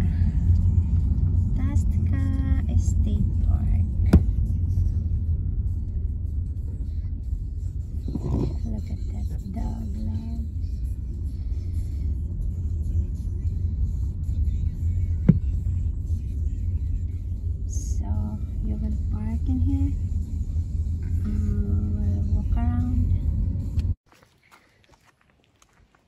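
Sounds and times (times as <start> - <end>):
car interior road rumble: 0.0 - 24.0.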